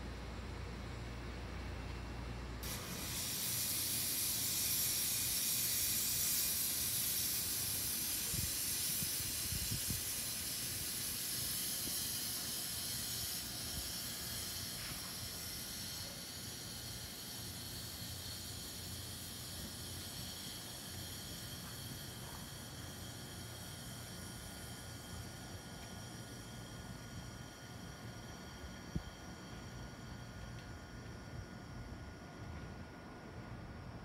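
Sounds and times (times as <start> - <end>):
passing train hiss: 2.5 - 34.0.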